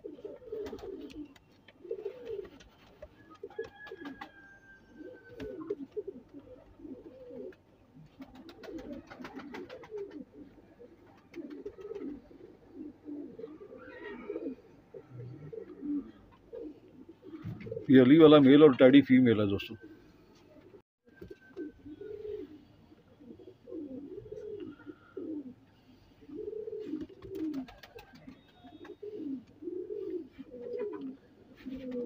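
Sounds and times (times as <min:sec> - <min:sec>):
pigeons cooing: 0:00.0 - 0:18.0, 0:19.6 - 0:32.0.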